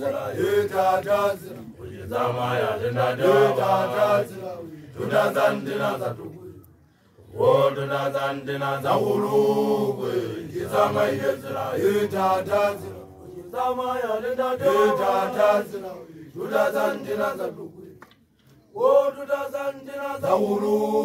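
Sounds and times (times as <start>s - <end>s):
group chanting: 0.0s - 6.6s, 7.2s - 18.0s, 18.7s - 21.0s.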